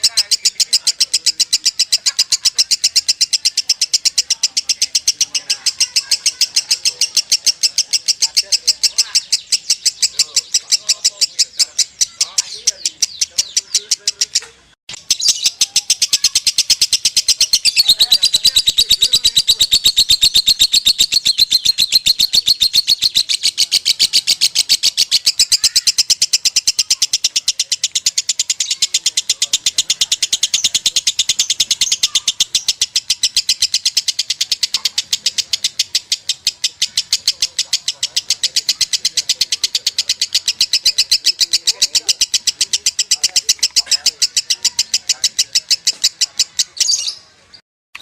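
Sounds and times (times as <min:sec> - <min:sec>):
lovebird chattering chirps: 0:00.0 - 0:48.0.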